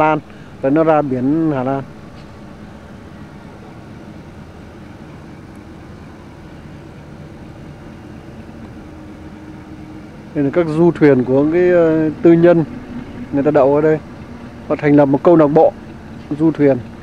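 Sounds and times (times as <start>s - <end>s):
faint steady tones: 0.0s - 17.0s
low hum and rumble: 0.0s - 17.0s.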